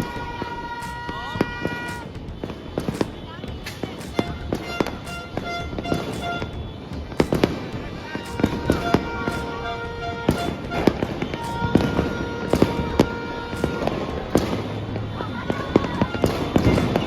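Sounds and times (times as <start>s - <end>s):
fireworks and firecrackers banging: 0.0s - 17.0s
music: 0.0s - 17.0s.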